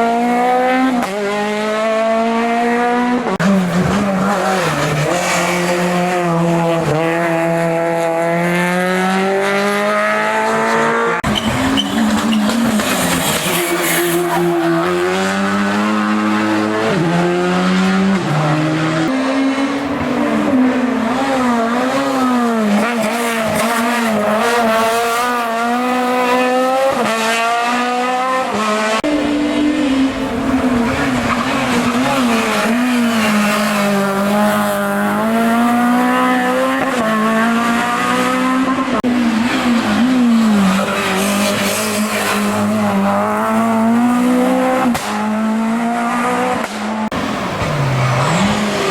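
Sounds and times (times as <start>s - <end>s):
racing car engine revving: 0.0s - 48.9s.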